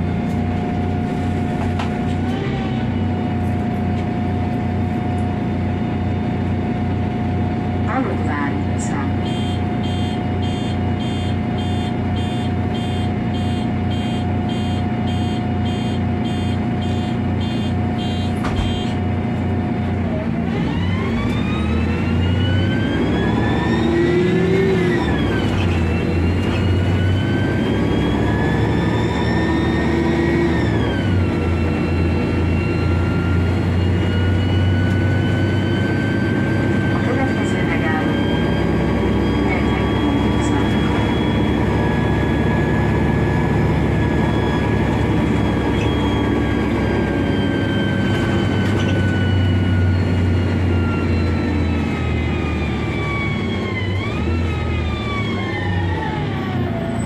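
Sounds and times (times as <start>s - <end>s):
bus engine whine: 0.0s - 57.0s.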